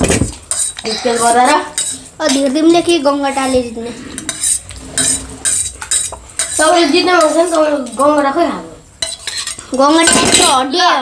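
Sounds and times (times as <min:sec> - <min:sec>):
metal spoon scraping steel plate: 0:00.0 - 0:08.3, 0:09.0 - 0:10.6.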